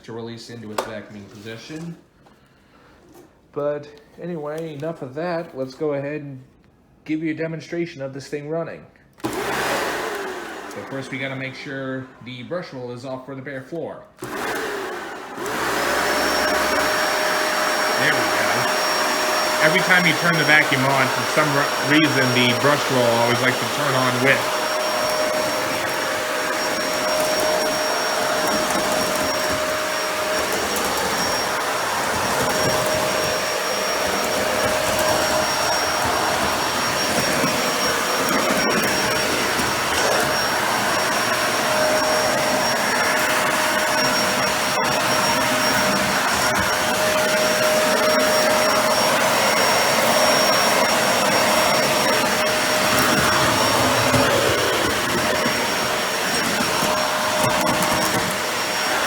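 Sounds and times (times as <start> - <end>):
upright vacuum running: 9.2 - 12.4, 14.2 - 59.0.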